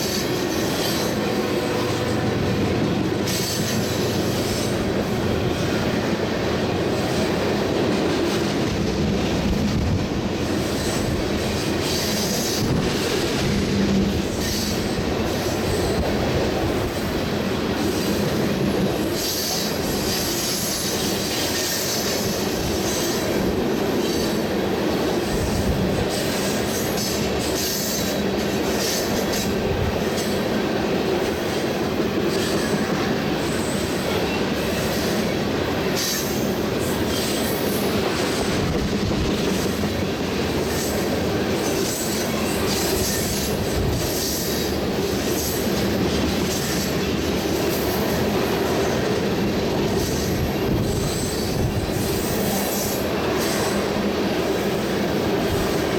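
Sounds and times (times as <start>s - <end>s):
freight train wheels rumbling: 0.0s - 55.9s.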